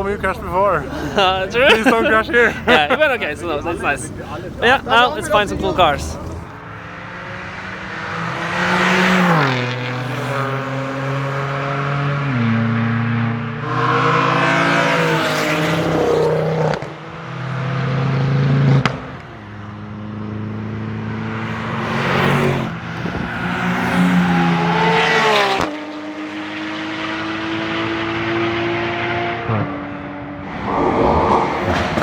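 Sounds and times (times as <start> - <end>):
cars driving by and revving: 0.0 - 32.0.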